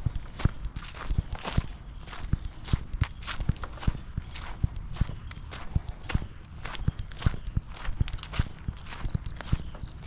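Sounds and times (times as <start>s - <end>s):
footsteps on nature trail: 0.0s - 10.0s.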